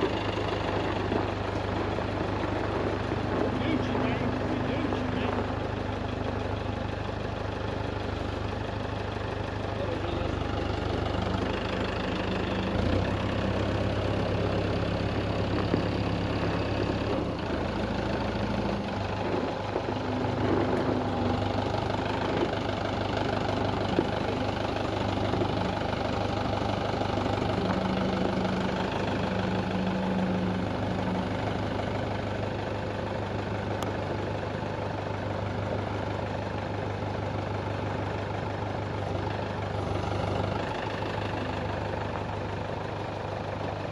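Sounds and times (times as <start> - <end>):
tractor engine drone: 0.0 - 43.9.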